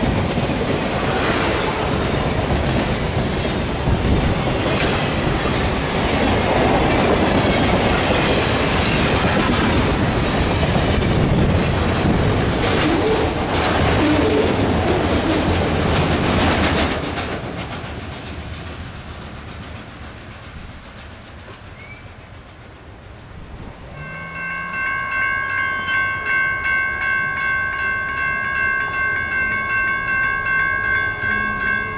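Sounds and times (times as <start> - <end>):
freight train wheels clattering: 0.0 - 31.9.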